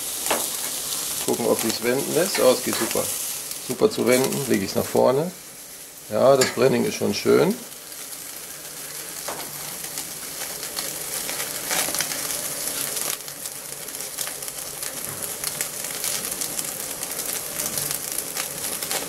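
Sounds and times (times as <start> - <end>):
steak sizzling on grill: 0.0 - 19.0.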